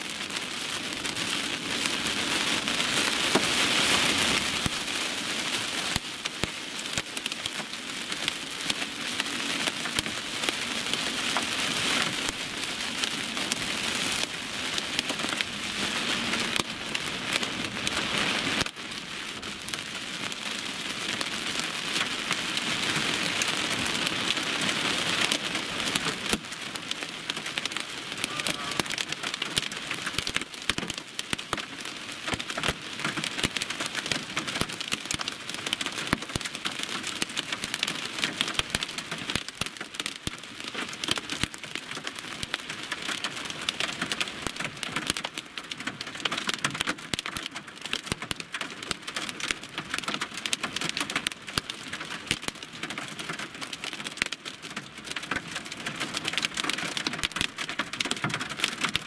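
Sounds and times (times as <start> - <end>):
heavy rain on car windshield: 0.0 - 59.0.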